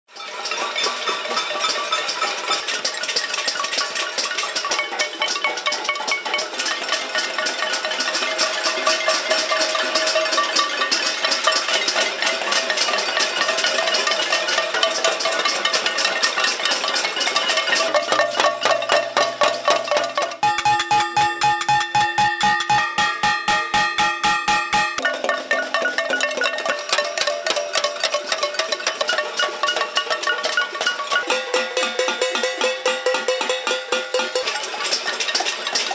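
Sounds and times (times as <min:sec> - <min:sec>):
pots and pans banging: 0:00.1 - 0:35.9
pots ringing: 0:00.1 - 0:35.9.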